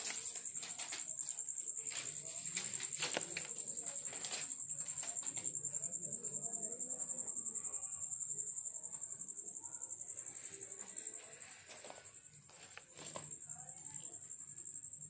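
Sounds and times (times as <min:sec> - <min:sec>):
faint low voices: 0:00.0 - 0:15.0.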